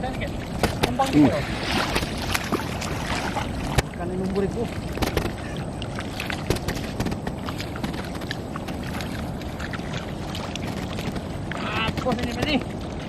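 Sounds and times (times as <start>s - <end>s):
shallow water sloshing and splashing: 0.0s - 13.0s.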